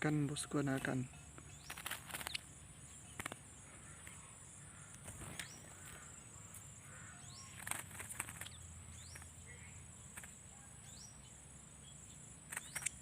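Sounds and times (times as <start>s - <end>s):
bird chirps: 0.0s - 13.0s
high insect drone: 0.0s - 13.0s.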